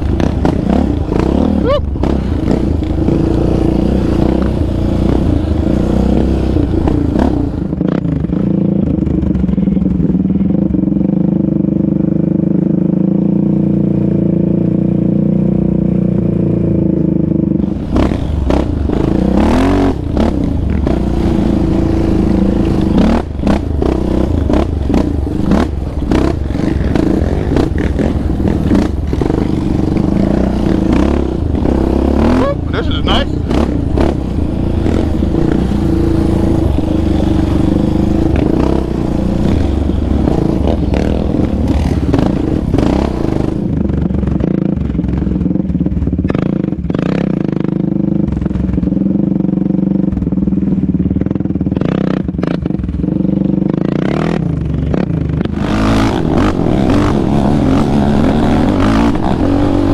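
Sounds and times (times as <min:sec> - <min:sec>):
quad engine revving: 0:00.0 - 0:09.7, 0:11.1 - 0:45.2, 0:51.8 - 0:59.9.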